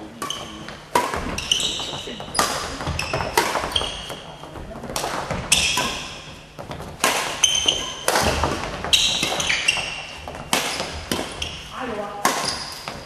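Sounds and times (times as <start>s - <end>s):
racket strikes echoing: 0.0s - 13.0s
shoes squeaking on court floor: 0.0s - 13.0s.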